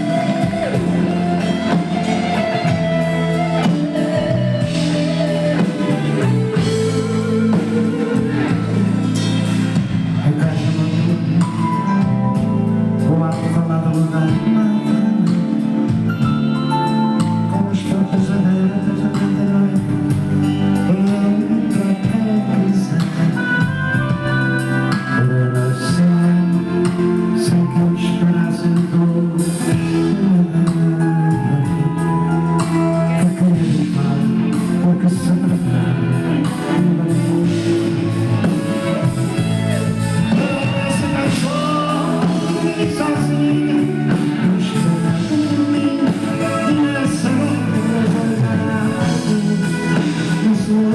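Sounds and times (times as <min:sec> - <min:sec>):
live band music: 0:00.0 - 0:50.9
man singing: 0:00.0 - 0:50.9.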